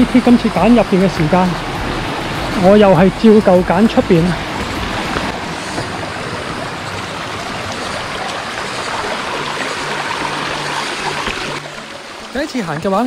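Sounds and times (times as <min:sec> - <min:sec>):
water flowing over rocks: 0:00.0 - 0:13.0.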